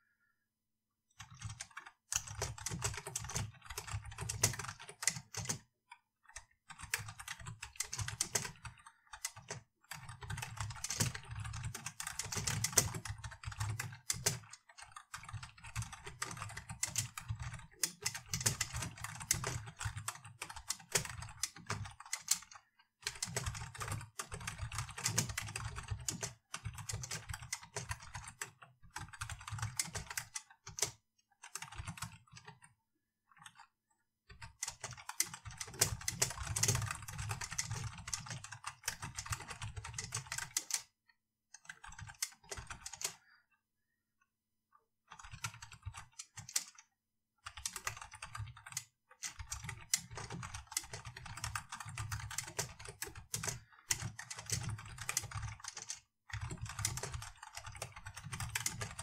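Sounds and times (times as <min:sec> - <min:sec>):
typing on computer keyboard: 0:01.1 - 0:33.7, 0:34.3 - 0:43.4, 0:45.1 - 0:59.0.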